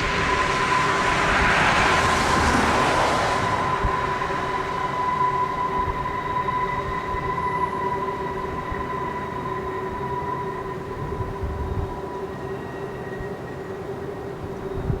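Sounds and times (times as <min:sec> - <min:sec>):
freight train rumbling past: 0:00.0 - 0:12.9
high whine: 0:00.0 - 0:15.0.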